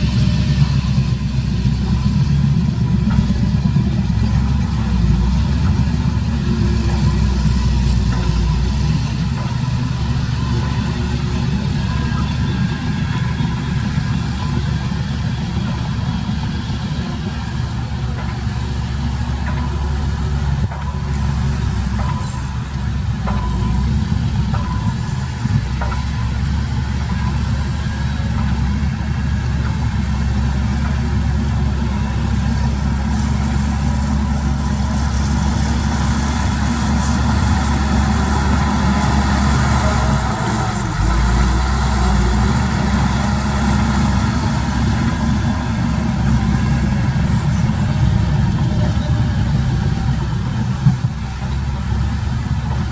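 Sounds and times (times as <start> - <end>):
heavy diesel machinery rumble: 0.0 - 52.9.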